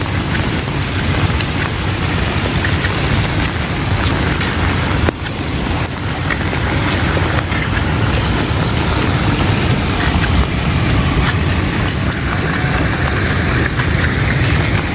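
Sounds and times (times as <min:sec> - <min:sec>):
heavy rain falling: 0:00.0 - 0:14.9
wind buffeting microphone: 0:00.0 - 0:14.9.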